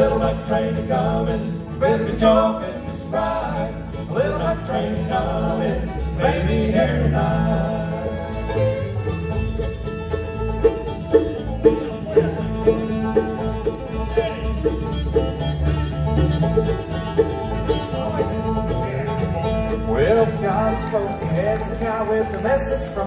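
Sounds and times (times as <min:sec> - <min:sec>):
bluegrass band playing: 0:00.0 - 0:23.0.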